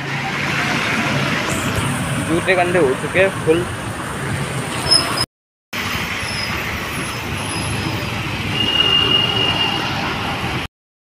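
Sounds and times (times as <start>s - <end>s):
road traffic noise: 0.0s - 10.7s.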